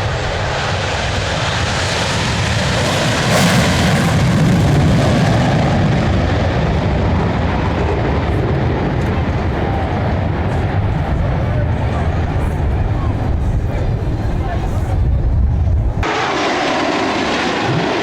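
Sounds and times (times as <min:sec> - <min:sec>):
military aircraft flying past: 0:00.0 - 0:15.0, 0:16.0 - 0:18.0.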